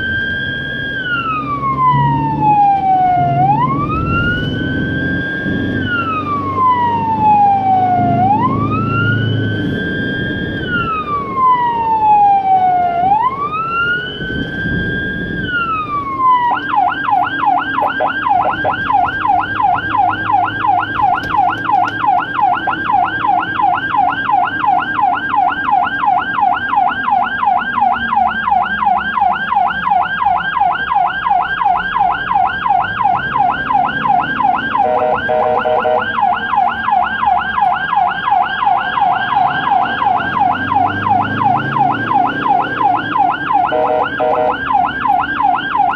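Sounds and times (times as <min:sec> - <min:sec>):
ambulance siren wailing and yelping: 0:00.0 - 0:45.9
engine and road noise: 0:00.0 - 0:45.9.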